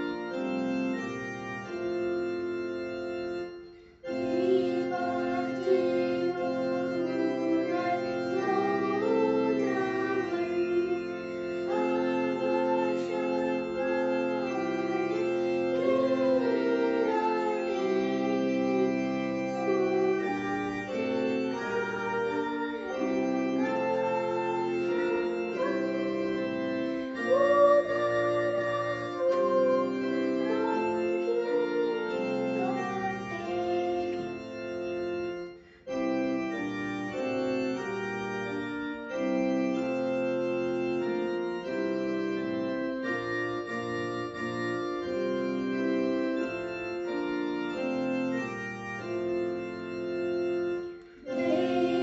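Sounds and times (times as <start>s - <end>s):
electronic organ playing hymn: 0.0s - 52.0s.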